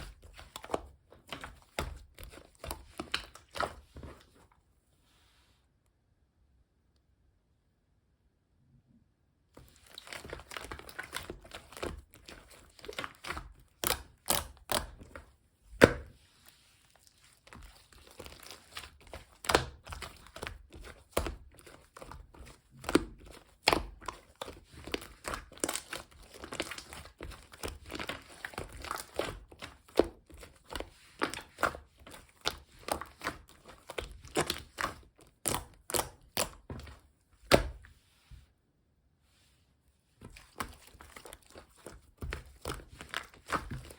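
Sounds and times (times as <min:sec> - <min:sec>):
slime squished by hand: 0:00.0 - 0:04.4, 0:09.6 - 0:37.9, 0:40.2 - 0:43.9.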